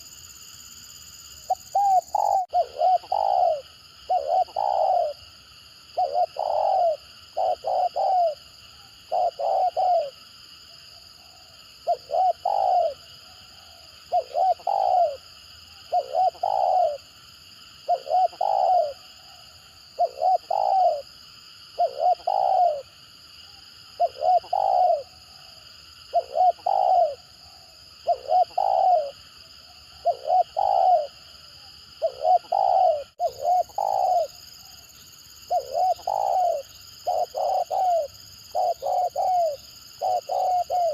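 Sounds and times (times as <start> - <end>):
dove cooing: 1.4 - 5.3, 6.0 - 10.2, 11.2 - 17.1, 17.8 - 21.1, 21.8 - 22.9, 24.0 - 25.5, 26.1 - 29.2, 29.9 - 40.9.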